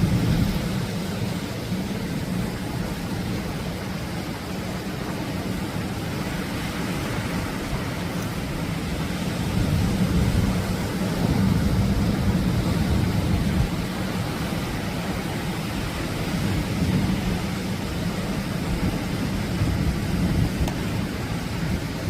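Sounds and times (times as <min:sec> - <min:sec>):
waves breaking: 0:00.0 - 0:22.0.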